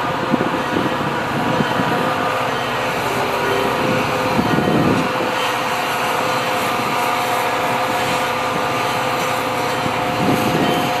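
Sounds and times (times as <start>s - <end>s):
broad rushing noise: 0.0s - 11.0s
diesel locomotive engine whine: 0.0s - 11.0s.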